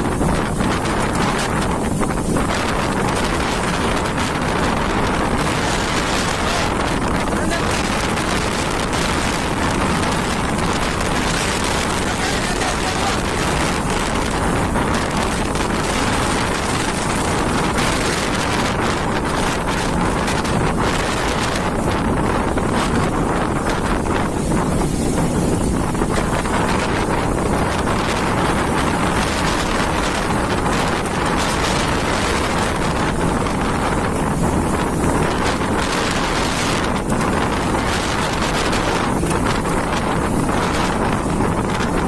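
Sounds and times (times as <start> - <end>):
heavy sea surf: 0.0 - 42.0
wind buffeting microphone: 0.0 - 42.0.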